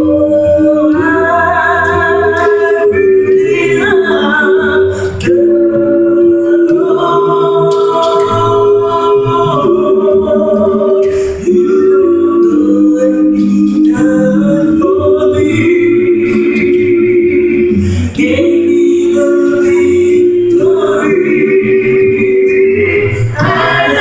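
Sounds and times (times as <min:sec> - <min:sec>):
vocal group singing in harmony: 0:00.0 - 0:24.0.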